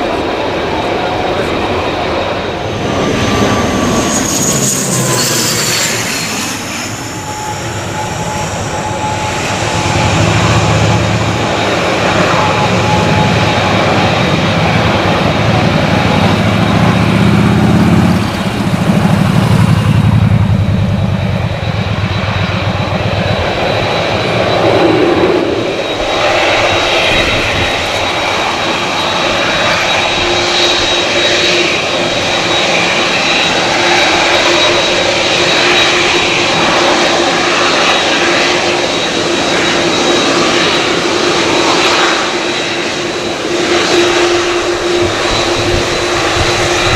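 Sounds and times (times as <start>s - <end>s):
jet engines rushing and whining: 0.0s - 46.9s
turboprop engines droning: 0.0s - 46.9s.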